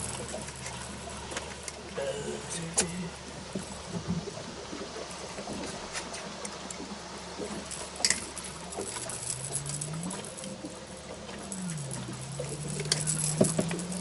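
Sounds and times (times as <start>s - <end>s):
distant motorboat engine humming: 0.0s - 14.0s.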